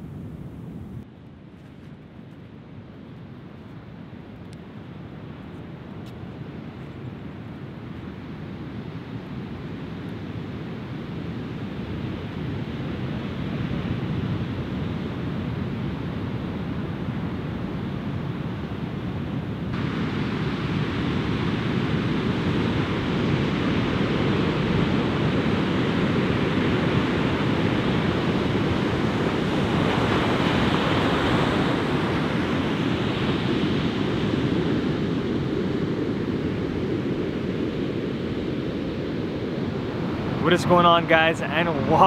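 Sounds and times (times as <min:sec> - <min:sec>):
ocean surf on beach: 0:04.2 - 0:42.0.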